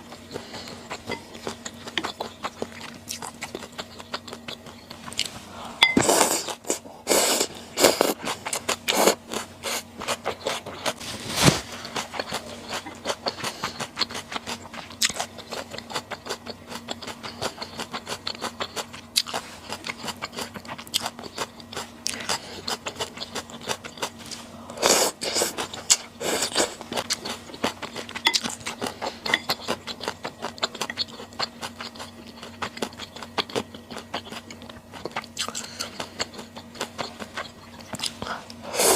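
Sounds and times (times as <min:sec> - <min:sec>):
chewing and crunching: 0:00.0 - 0:38.9
faint steady hum: 0:00.0 - 0:38.9.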